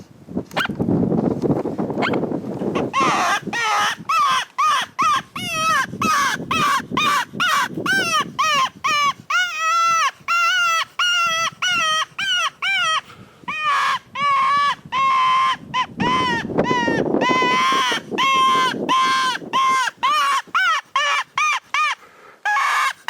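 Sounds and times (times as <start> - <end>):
predator call squealing cries: 2.8 - 23.0.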